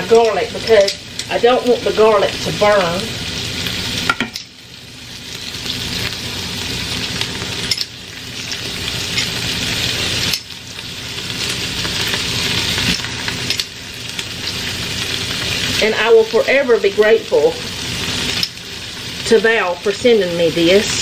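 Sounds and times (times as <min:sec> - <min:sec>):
vegetables sizzling in a pot: 0:00.0 - 0:21.0.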